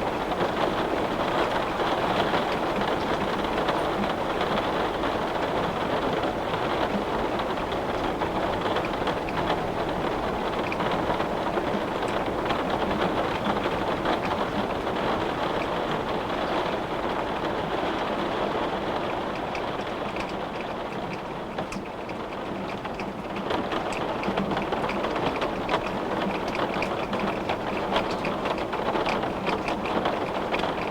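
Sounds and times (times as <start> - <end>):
rain hissing on window: 0.0 - 30.9
raindrops ticking on glass: 0.1 - 30.9.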